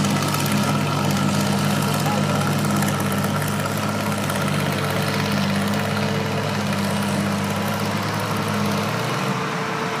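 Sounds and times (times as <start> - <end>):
tractor engine running under load: 0.0 - 10.0.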